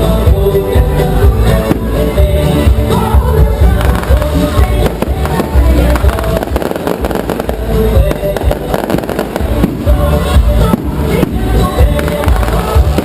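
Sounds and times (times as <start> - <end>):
loud forro music: 0.0 - 13.0
firecrackers popping: 1.5 - 13.0.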